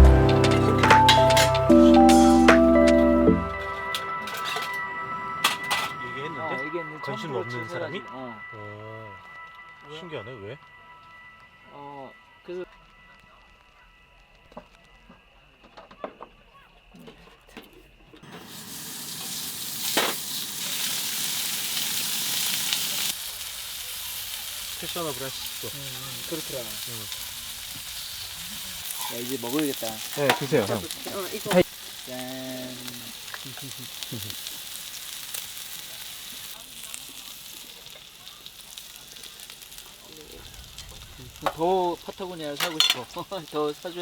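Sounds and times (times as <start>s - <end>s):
food sizzling: 0.0s - 14.9s, 18.2s - 44.0s.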